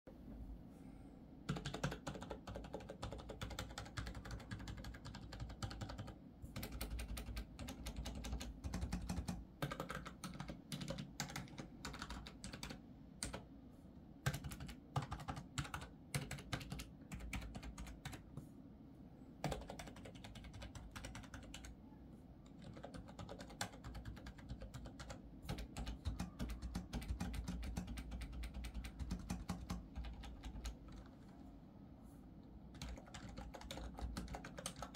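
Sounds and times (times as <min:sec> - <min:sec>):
keyboard typing: 0:01.5 - 0:13.5, 0:14.2 - 0:18.3, 0:19.4 - 0:21.8, 0:22.4 - 0:31.5, 0:32.7 - 0:34.9.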